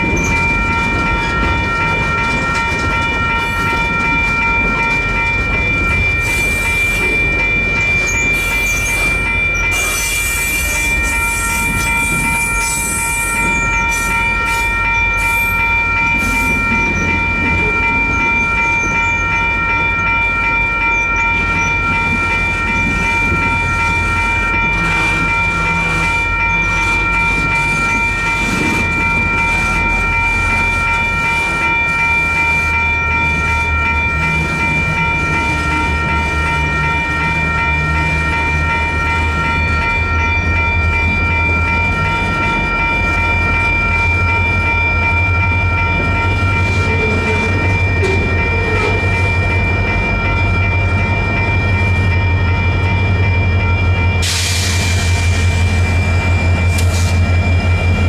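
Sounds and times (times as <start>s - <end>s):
crossing bells ringing: 0.0s - 58.0s
freight train rumble and wheel clatter: 0.0s - 58.0s.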